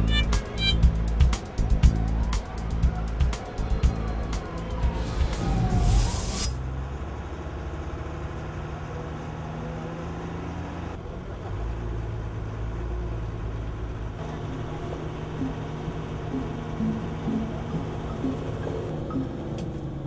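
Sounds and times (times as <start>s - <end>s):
vehicle engine running: 0.0s - 9.6s, 10.4s - 20.0s.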